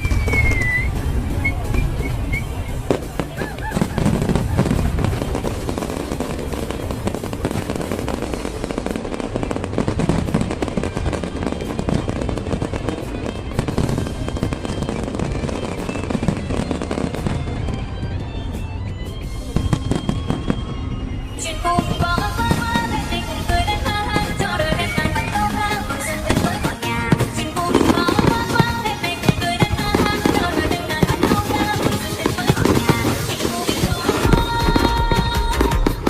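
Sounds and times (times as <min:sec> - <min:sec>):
fireworks bangs and crackling: 0:00.0 - 0:36.0
music playing: 0:00.0 - 0:36.0.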